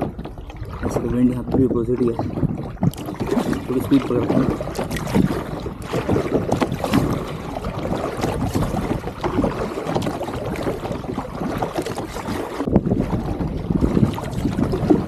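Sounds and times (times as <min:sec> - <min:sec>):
paddle splashing through water: 0:00.0 - 0:15.0
wind noise on microphone: 0:00.0 - 0:15.0.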